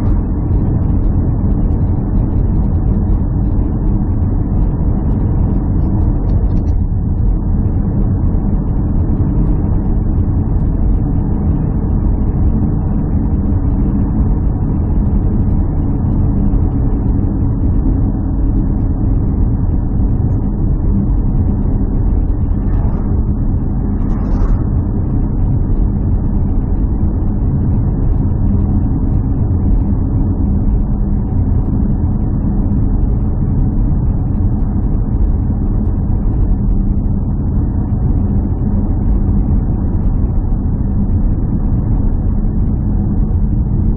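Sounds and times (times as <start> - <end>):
motor vehicle low rumble: 0.0 - 43.9.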